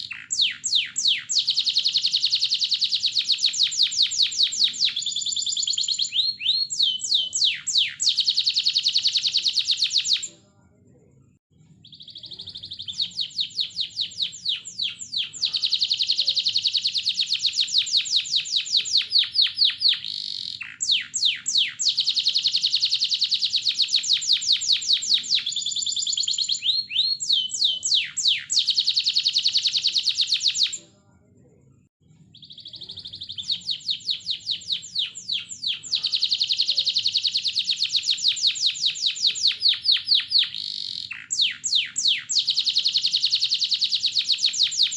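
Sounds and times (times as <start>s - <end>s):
canary singing trills: 0.0s - 10.4s, 11.6s - 30.9s, 32.2s - 44.9s.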